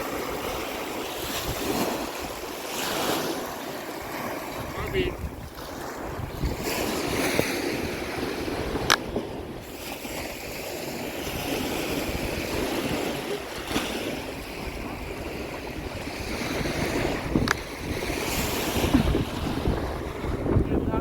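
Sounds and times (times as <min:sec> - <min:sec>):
waves washing against shore: 0:00.0 - 0:21.0
wind buffeting microphone: 0:00.0 - 0:21.0.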